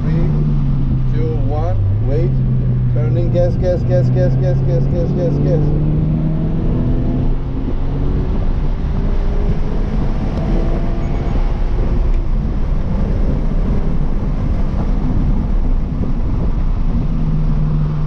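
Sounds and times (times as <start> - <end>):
car engine pulling hard: 0.0 - 18.0
road and wind noise: 0.0 - 18.0.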